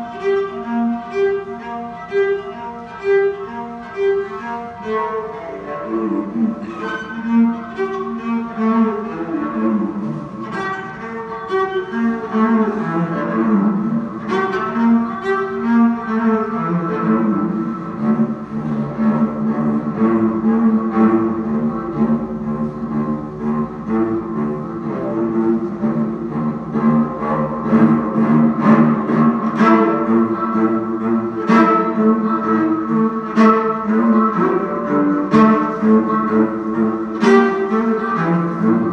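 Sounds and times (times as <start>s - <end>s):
bowed cello: 0.0s - 38.9s.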